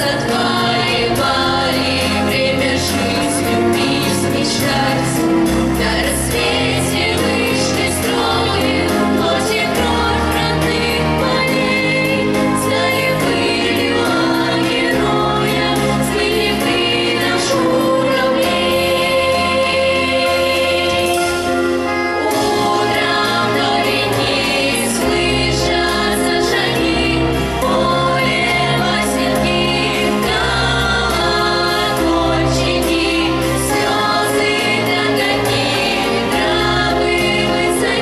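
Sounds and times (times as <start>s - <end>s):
children's group singing: 0.0s - 38.0s
instrumental accompaniment with bass: 0.0s - 38.0s.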